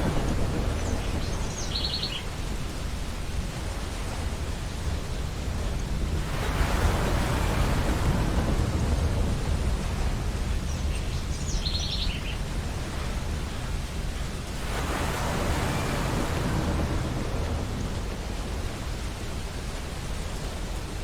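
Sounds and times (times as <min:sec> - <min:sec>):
ocean surf on a beach: 0:00.0 - 0:21.0.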